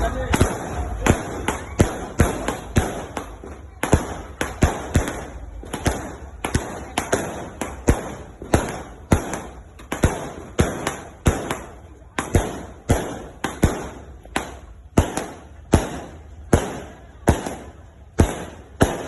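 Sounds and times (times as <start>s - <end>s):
fireworks bangs echoing: 0.0s - 19.0s.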